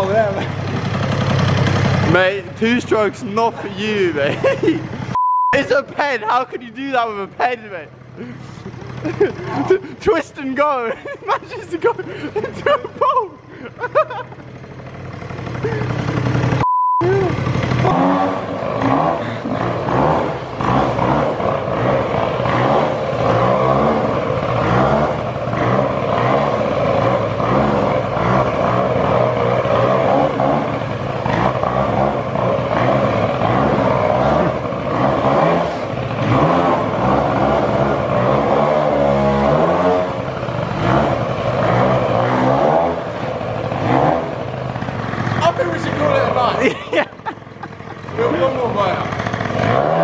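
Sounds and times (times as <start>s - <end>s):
two-stroke moped engine revving: 0.0s - 50.0s.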